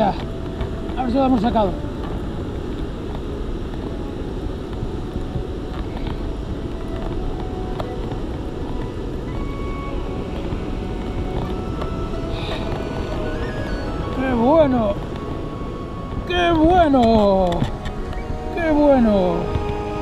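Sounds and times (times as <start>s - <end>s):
sea surf: 0.0s - 20.0s
wind rumble on microphone: 0.0s - 20.0s.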